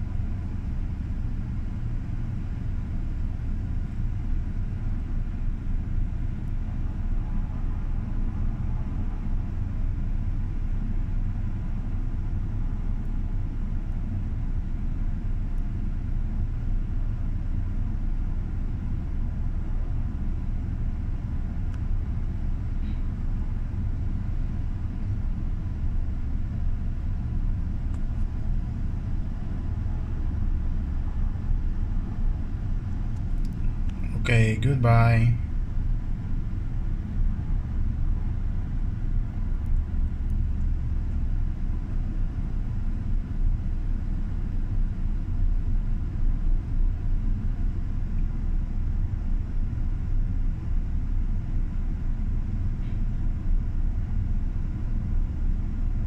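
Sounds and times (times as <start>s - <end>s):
faint steady whine: 0.0s - 56.0s
helicopter idling low rumble: 0.0s - 56.0s.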